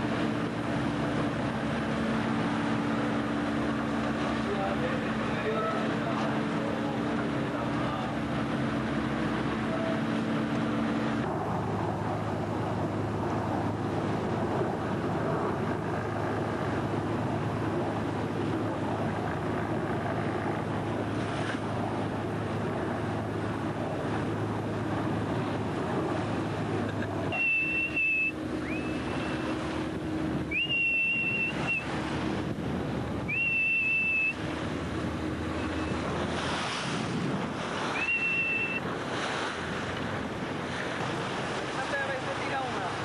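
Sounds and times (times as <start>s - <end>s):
low engine hum: 0.0s - 43.0s
sea splashing against boat: 0.0s - 43.0s
wind buffeting microphone: 0.0s - 43.0s.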